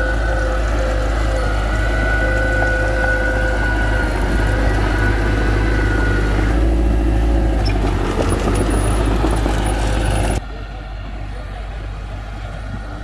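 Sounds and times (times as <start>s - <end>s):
heavy machinery engine rumbling: 0.0s - 13.0s.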